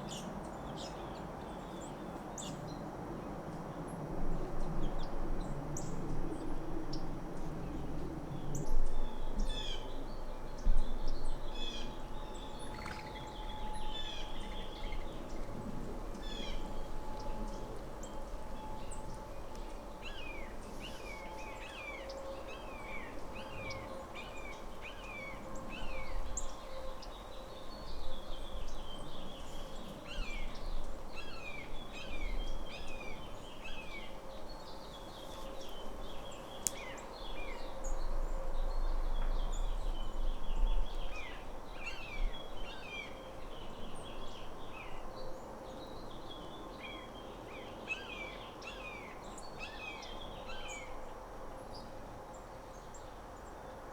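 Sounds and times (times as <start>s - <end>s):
faint steady hum: 3.2s - 53.9s
songbirds chirping: 8.4s - 53.8s.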